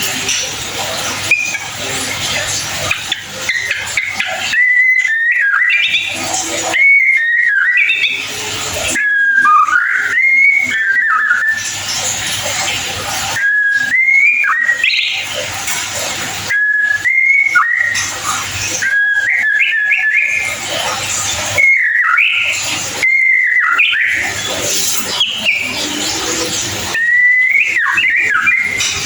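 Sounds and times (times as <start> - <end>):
bird singing whistled phrases: 0.0 - 12.8, 13.4 - 29.0.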